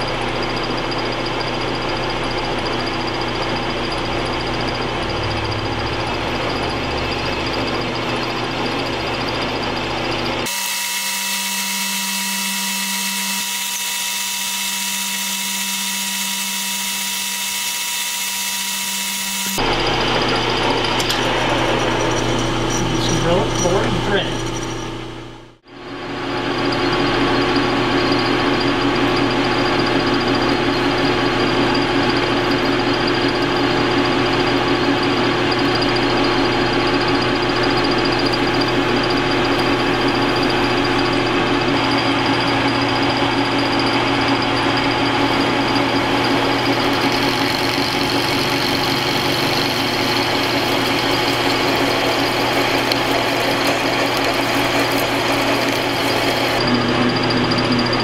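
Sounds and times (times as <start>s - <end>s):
high whine: 0.0s - 58.0s
metal lathe humming: 0.0s - 58.0s
drill cutting steel: 0.8s - 25.1s, 26.4s - 58.0s.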